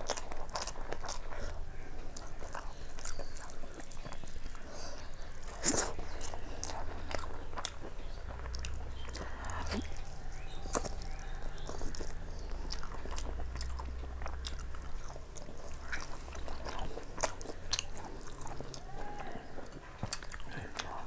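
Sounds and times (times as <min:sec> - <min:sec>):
person biting and chewing: 0:00.0 - 0:18.9.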